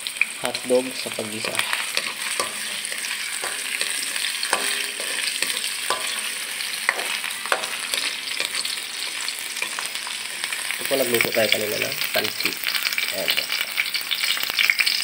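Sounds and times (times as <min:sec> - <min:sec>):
onion sizzling in hot oil: 0:00.0 - 0:15.0
spoon scraping and knocking wok: 0:01.0 - 0:14.4.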